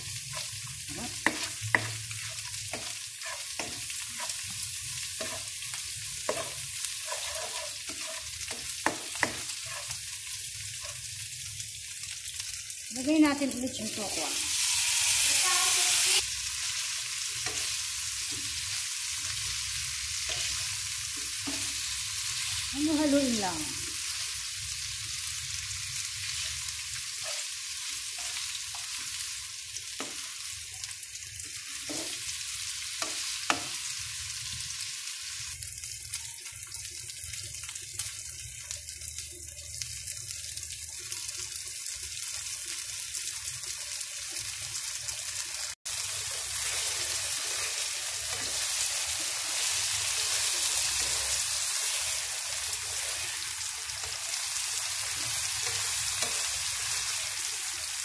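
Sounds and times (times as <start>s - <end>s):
tofu sizzling in a wok: 0.0s - 58.0s.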